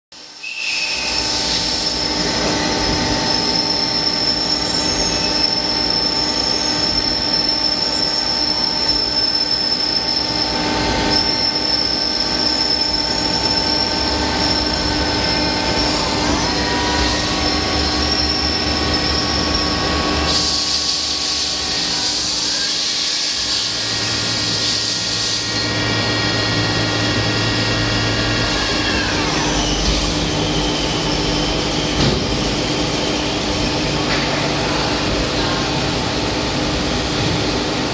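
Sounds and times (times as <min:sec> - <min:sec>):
lathe metallic whine: 0:00.2 - 0:37.9.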